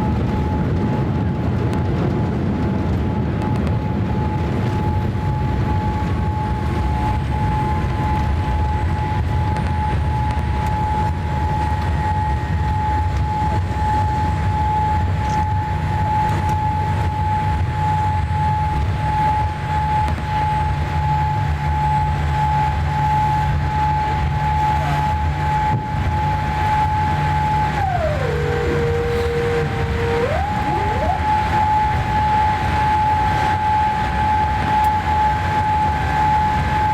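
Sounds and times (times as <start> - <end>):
jet engine deep rumble: 0.0 - 36.9
jet engine high whine: 0.0 - 36.9.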